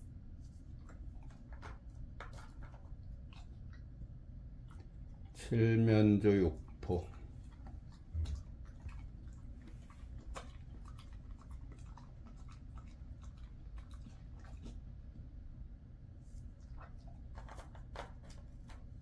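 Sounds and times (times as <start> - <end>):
low room hum: 0.0 - 19.0
dog chewing: 0.3 - 15.5, 16.3 - 19.0.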